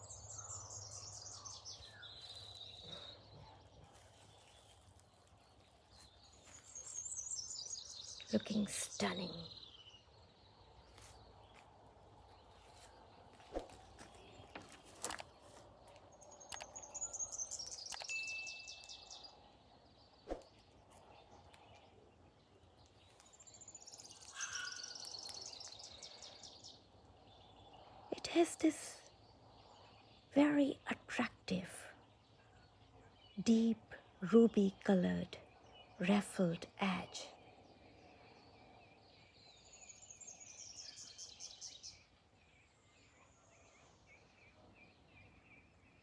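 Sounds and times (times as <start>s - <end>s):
distant birds chirping: 0.0s - 46.0s.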